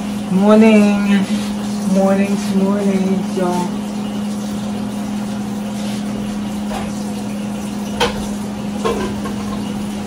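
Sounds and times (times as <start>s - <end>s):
kitchen appliance humming: 0.0s - 10.0s.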